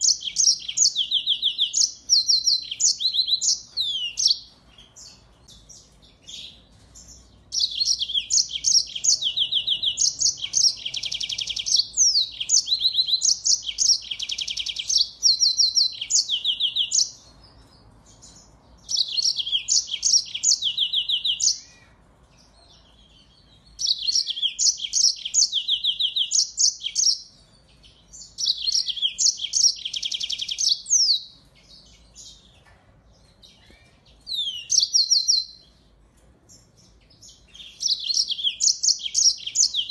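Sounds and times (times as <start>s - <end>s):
finch singing trills: 0.0s - 35.9s, 36.5s - 39.9s.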